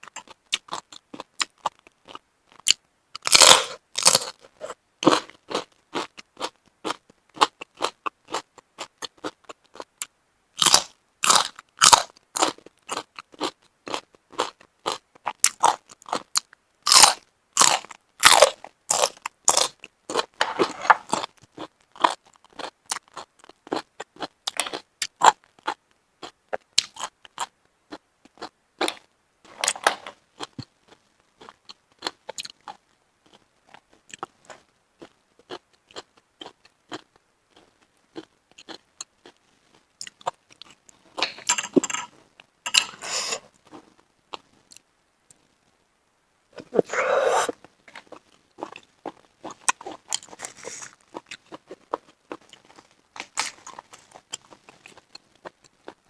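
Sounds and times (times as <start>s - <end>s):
person chewing food: 0.0s - 44.9s, 46.6s - 56.0s.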